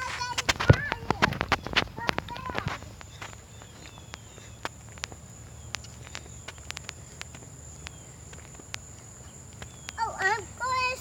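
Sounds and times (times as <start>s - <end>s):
footsteps on rubber surface: 0.0s - 11.0s.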